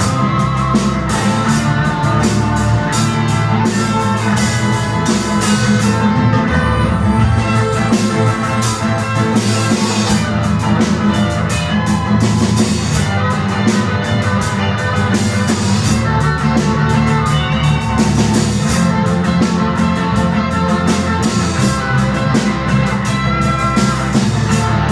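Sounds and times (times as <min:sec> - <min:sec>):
drum kit beat: 0:00.0 - 0:24.9
live rock band playing: 0:00.0 - 0:24.9.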